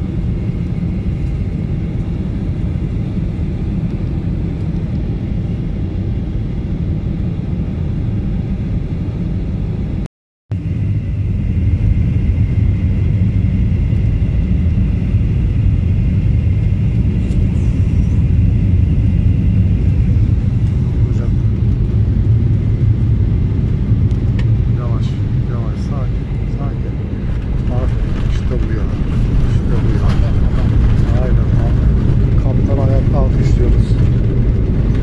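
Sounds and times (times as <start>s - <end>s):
jet engines rumbling in cabin: 0.0s - 35.0s.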